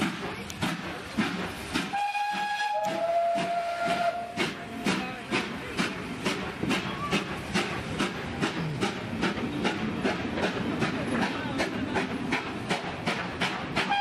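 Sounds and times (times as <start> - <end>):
train carriages rolling past: 0.0 - 14.0.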